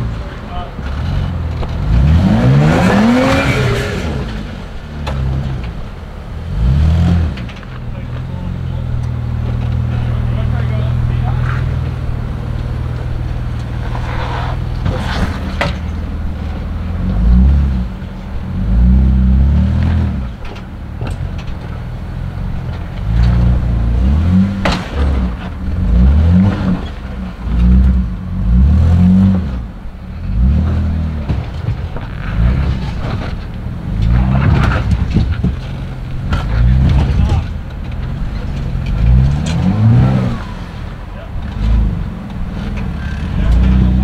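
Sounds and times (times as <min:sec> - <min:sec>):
engine revving: 0:00.0 - 0:44.0.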